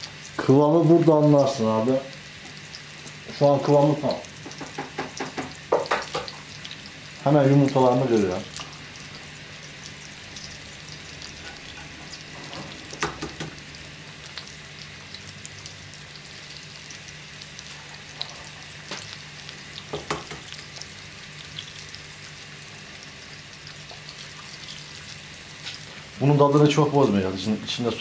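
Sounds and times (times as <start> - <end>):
food sizzling in a frying pan: 0.0 - 28.0
eggs cracking on a pan: 2.1 - 27.1.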